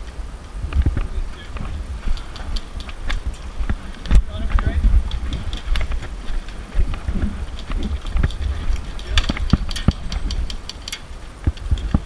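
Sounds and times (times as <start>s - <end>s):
low rumble: 0.0s - 10.6s
sharp clicks and knocks: 0.7s - 12.0s.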